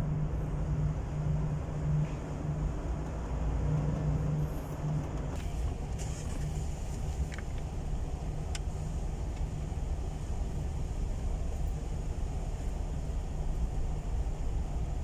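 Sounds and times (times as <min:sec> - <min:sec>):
car engine rumble from inside: 0:00.0 - 0:15.0.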